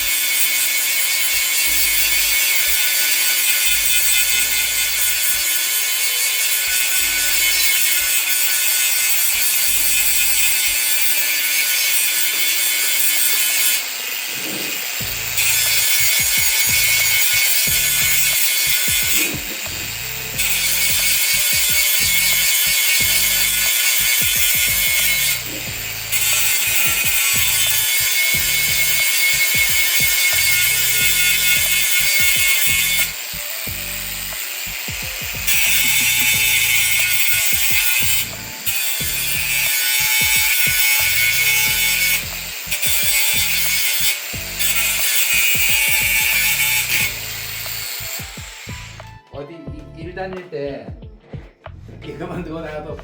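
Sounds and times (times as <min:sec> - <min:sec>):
abrasive sanding on metal: 0:00.0 - 0:49.0
background music: 0:01.2 - 0:53.0.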